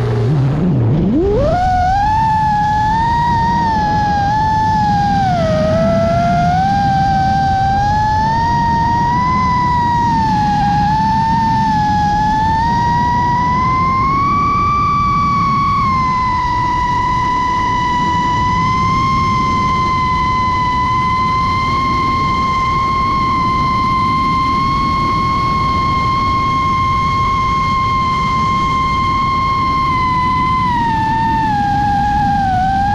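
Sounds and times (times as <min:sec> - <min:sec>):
constant rushing noise: 0:00.0 - 0:32.9
drone motors whining: 0:00.0 - 0:32.9.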